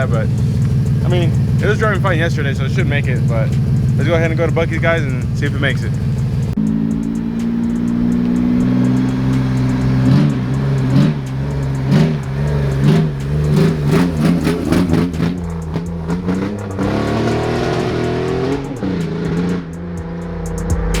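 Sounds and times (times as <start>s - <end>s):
car accelerating away: 0.0s - 21.0s
car engine idling and revving: 0.0s - 21.0s.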